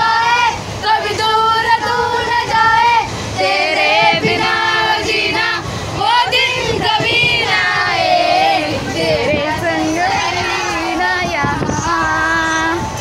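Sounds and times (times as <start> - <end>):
young women singing together: 0.0 - 13.0.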